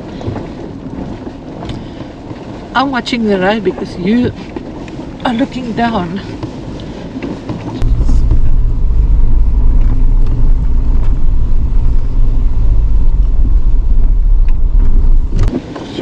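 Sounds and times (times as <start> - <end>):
vehicle rumbling on dirt road: 0.0 - 16.0.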